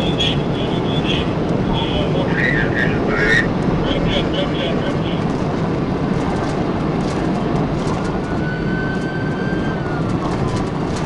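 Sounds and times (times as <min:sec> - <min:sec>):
engine tyre and wind roar: 0:00.0 - 0:11.0.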